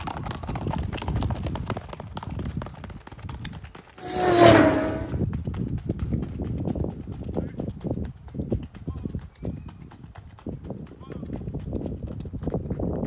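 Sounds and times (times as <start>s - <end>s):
horse hoofbeats on gravel: 0.0s - 4.0s, 5.3s - 13.0s.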